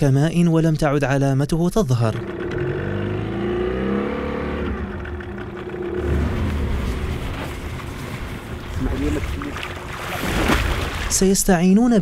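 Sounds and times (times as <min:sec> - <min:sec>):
boat motor rumbling: 0:01.2 - 0:11.3.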